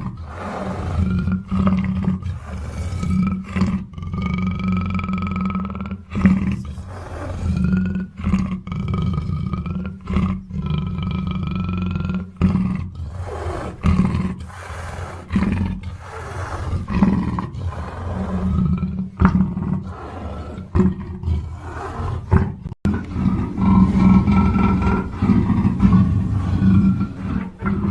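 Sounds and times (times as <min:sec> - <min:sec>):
leopard roaring and growling: 0:00.0 - 0:05.0, 0:06.0 - 0:27.9.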